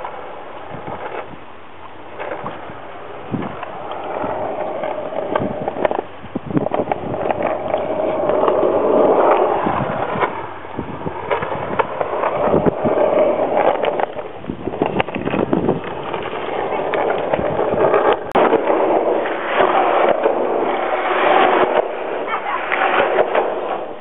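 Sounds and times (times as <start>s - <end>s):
skateboard clicks and knocks: 0.0s - 24.0s
skateboard wheels rolling on concrete: 0.0s - 24.0s.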